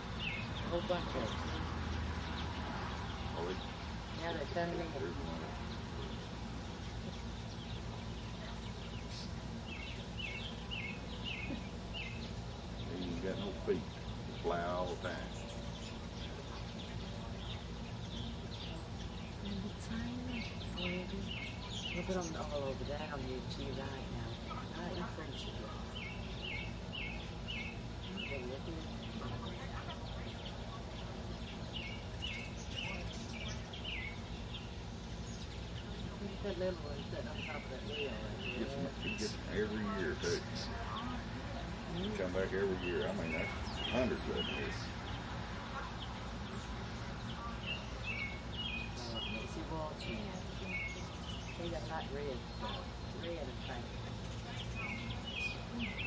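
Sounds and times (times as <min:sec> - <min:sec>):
bird chirping: 0:00.0 - 0:56.0
low outdoor background noise: 0:00.0 - 0:56.0.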